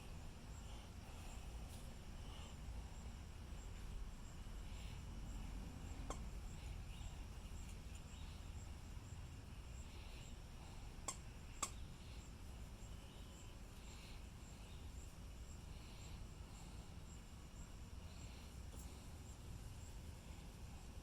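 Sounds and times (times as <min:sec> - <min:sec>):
faint background rumble: 0:00.0 - 0:21.0.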